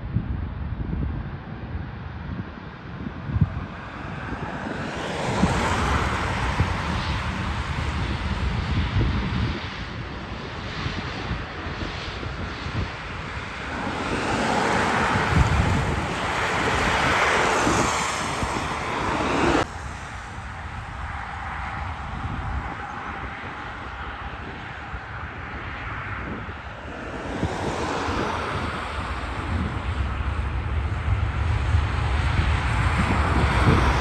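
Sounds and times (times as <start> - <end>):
jet airliner engine noise: 0.0 - 34.0
wind buffeting microphone: 0.0 - 34.0.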